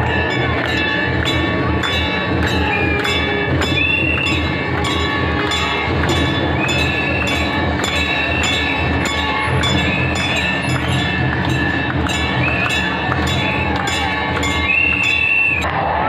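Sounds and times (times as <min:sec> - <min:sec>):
brass bells ringing: 0:00.0 - 0:15.6
dense crowd noise: 0:00.0 - 0:16.0.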